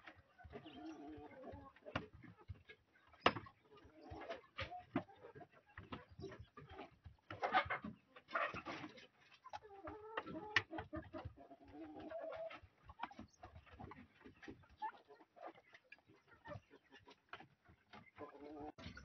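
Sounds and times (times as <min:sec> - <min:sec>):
turkeys calling softly: 0:00.0 - 0:19.0.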